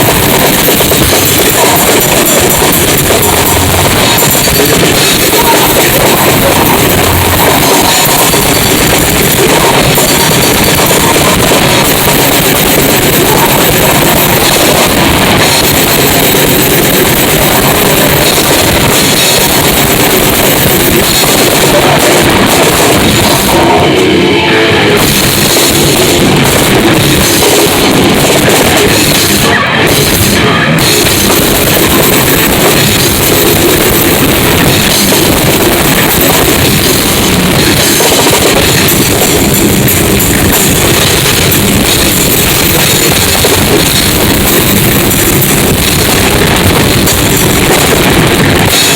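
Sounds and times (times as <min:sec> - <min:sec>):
bass drum: 0:00.0 - 0:24.0, 0:25.0 - 0:48.9
heavy rock band playing: 0:00.0 - 0:48.9.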